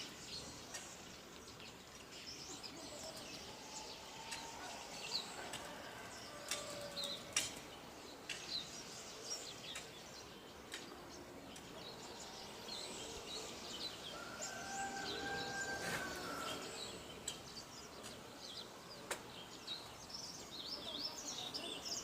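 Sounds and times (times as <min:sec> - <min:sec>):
outdoor background noise: 0:00.0 - 0:22.0
songbirds chirping: 0:00.0 - 0:22.0.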